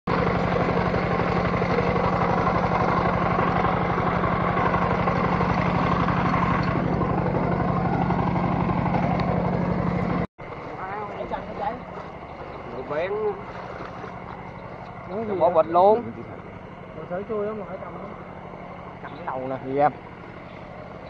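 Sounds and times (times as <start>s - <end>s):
machine hum with low drone: 0.1s - 21.0s.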